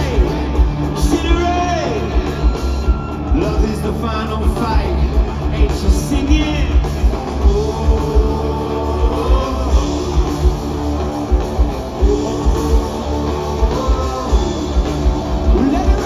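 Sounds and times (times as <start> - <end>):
drums with steady kick drum: 0.0 - 16.0
electric guitar: 0.0 - 16.0.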